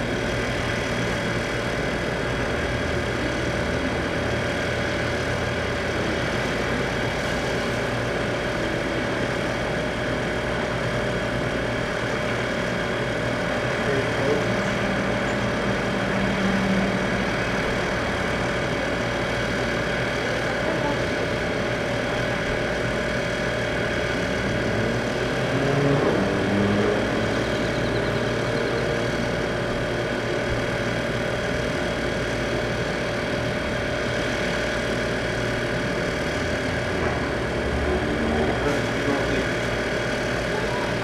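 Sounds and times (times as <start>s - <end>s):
rising whine: 0.0s - 20.0s, 21.9s - 41.0s
mechanical hum: 0.0s - 41.0s.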